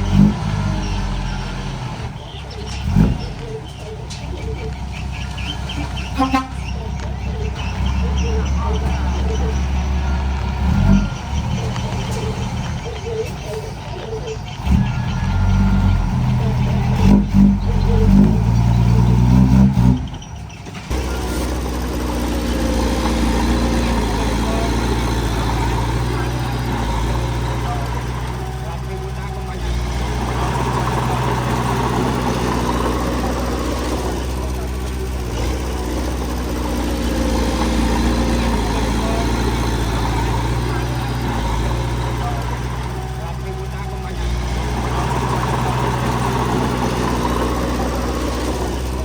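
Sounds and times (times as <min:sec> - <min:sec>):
diesel engine droning: 0:00.0 - 0:49.0.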